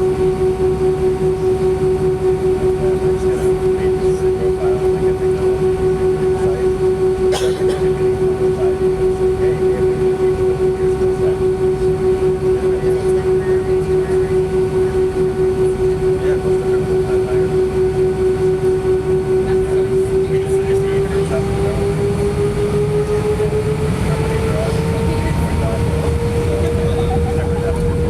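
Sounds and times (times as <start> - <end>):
airplane engine drone in cabin: 0.0 - 28.0.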